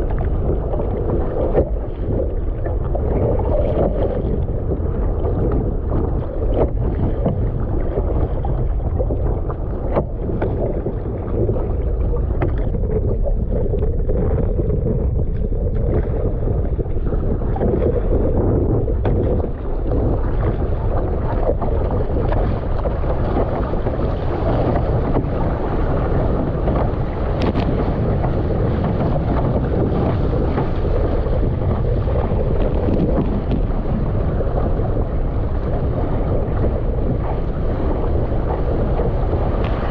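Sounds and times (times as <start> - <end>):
paddle blade splashes: 0.0 - 39.9
water rushing and splashing: 0.0 - 39.9
wind buffeting microphone: 0.0 - 39.9.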